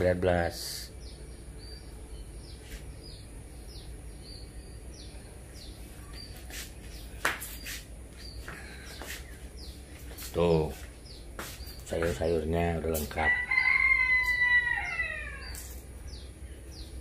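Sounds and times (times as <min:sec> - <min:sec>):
low steady hum: 0:00.0 - 0:17.0
songbird chirping: 0:00.0 - 0:17.0.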